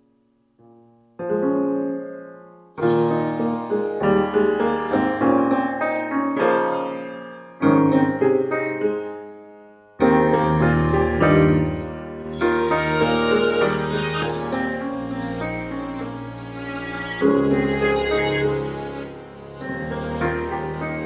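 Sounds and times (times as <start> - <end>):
piano chords: 0.7 - 21.0.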